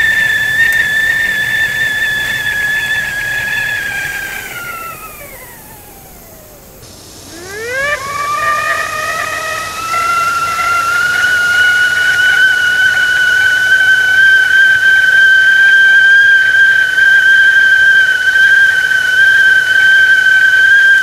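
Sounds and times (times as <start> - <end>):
steam hissing: 0.0 - 21.0
tea kettle whistling: 0.0 - 21.0.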